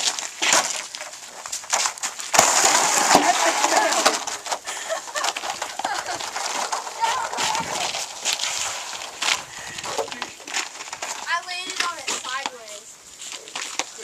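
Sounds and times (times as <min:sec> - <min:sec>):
sled scraping on icy snow: 0:00.0 - 0:14.0.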